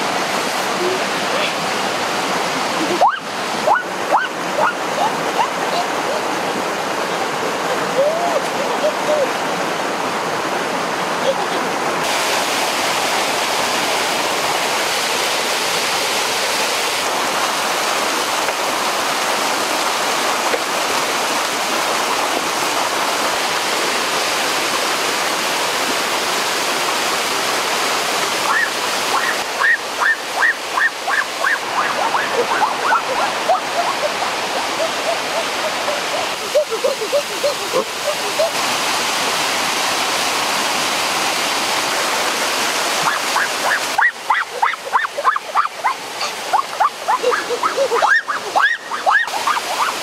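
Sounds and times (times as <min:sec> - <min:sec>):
small waterfall and stream rushing: 0:00.0 - 0:50.0.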